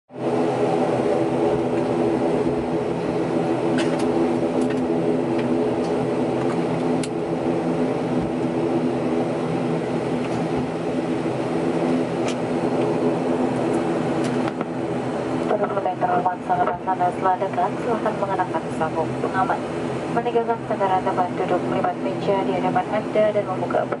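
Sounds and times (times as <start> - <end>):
airliner engines humming: 0.1 - 24.0.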